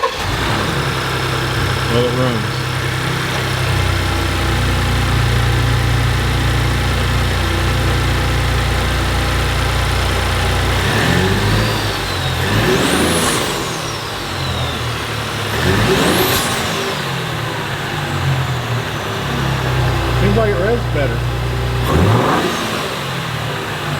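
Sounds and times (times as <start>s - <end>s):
engine idling and revving: 0.0s - 23.9s
turbo whine: 0.1s - 23.7s.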